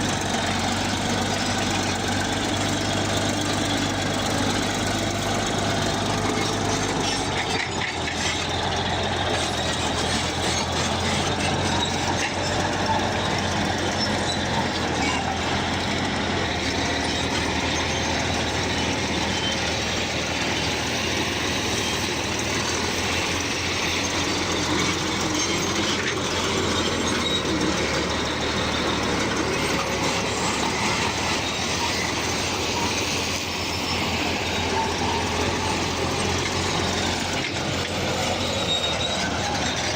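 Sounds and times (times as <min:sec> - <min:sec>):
diesel engine running: 0:00.0 - 0:39.9
steel tracks clattering: 0:00.0 - 0:39.9.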